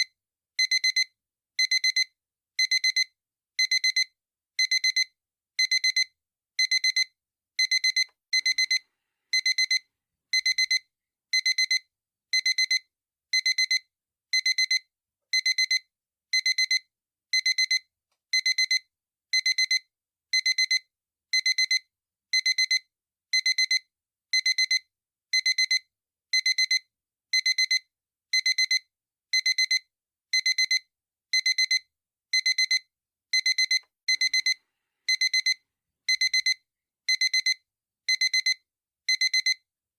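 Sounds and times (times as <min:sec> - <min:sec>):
digital alarm clock beeping: 0:00.6 - 0:12.8, 0:13.4 - 0:13.8, 0:14.4 - 0:15.8, 0:16.4 - 0:16.8, 0:17.4 - 0:18.8, 0:19.4 - 0:19.8, 0:20.4 - 0:21.8, 0:22.4 - 0:22.8, 0:23.4 - 0:23.8, 0:24.4 - 0:24.8, 0:25.4 - 0:25.8, 0:26.4 - 0:28.8, 0:29.4 - 0:39.6.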